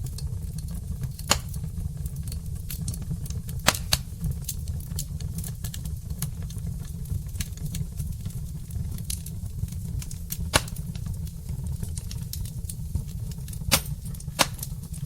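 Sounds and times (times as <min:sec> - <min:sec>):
fire crackles and pops: 0:00.0 - 0:15.0
low rumble of flame: 0:00.0 - 0:15.0.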